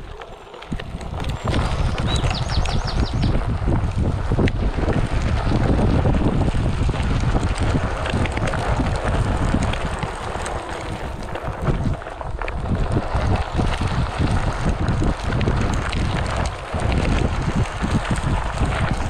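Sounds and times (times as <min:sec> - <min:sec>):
gravel clicks: 0:00.0 - 0:19.0
tyre rolling on dirt trail: 0:00.0 - 0:19.0
wind buffeting microphone: 0:00.0 - 0:19.0.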